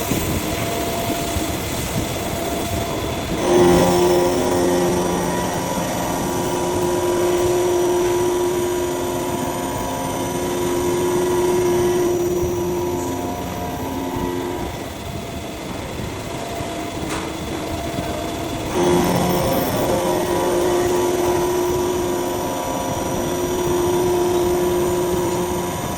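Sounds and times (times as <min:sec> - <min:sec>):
milling machine cutting with whine: 0:00.0 - 0:25.9.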